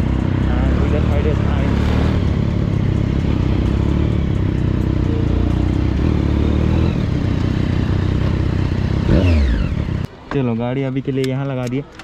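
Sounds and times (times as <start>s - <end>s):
motorcycle engine at low revs: 0.0s - 10.1s.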